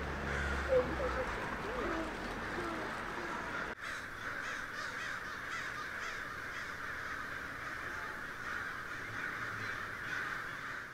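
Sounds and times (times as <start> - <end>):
flock of birds calling: 0.0 - 10.9.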